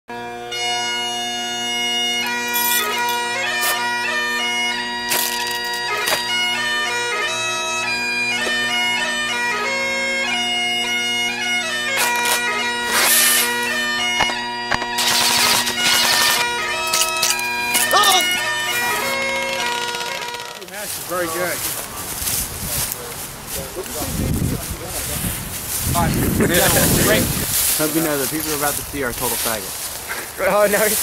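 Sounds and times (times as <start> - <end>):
bagpipe melody with drones: 0.1 - 31.0.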